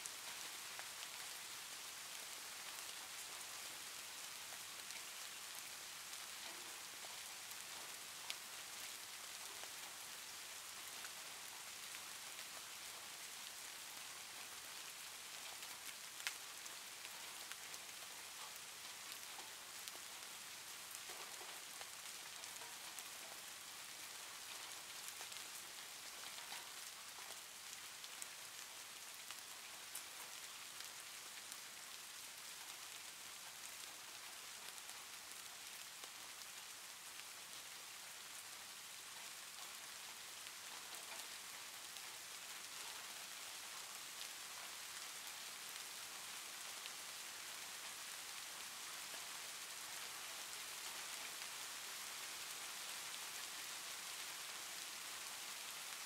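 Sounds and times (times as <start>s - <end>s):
faint ticks and crackles: 0.0s - 56.0s
steady rain-like hiss: 0.0s - 56.0s.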